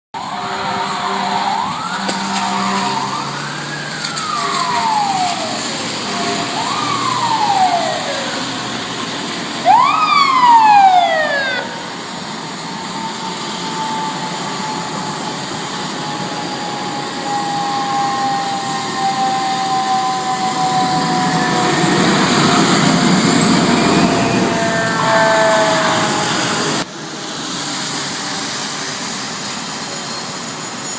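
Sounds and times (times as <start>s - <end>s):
fire truck siren wailing: 0.2s - 30.9s.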